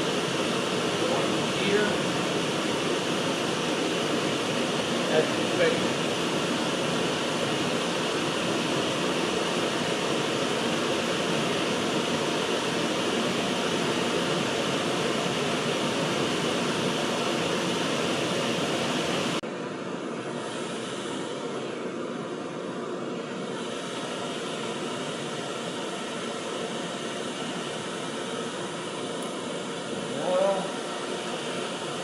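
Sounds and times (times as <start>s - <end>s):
gas stove burners hissing: 0.0s - 32.0s.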